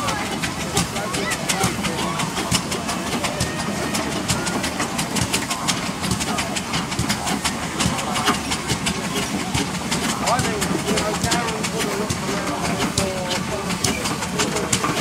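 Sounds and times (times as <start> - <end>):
gravel crackling under roller: 0.0 - 15.0
steam roller rumbling: 0.0 - 15.0.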